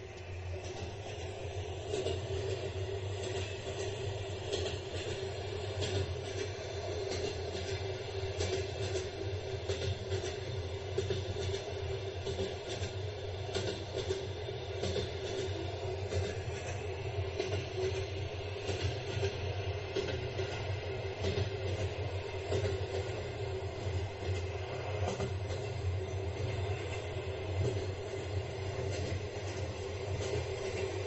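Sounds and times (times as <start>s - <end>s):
train rumbling on track: 0.0s - 31.0s.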